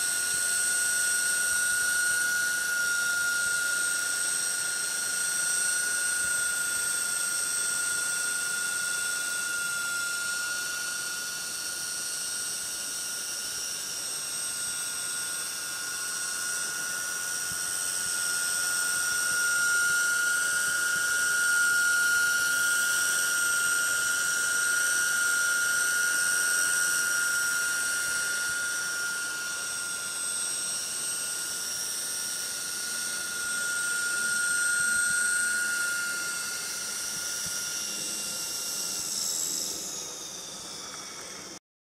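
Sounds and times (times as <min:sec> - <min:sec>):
rc helicopter rotor whine: 0:00.0 - 0:41.6.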